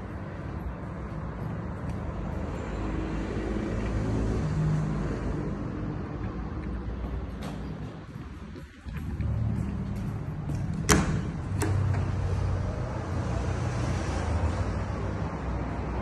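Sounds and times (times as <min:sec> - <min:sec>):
passing cars rumbling: 0:00.0 - 0:16.0.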